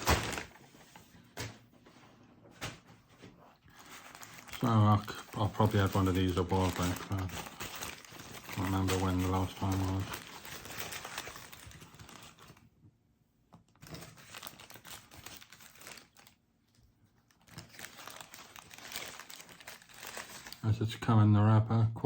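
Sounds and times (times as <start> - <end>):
paper wrapper crinkling: 0.0 - 1.6, 2.6 - 12.6, 13.7 - 20.8.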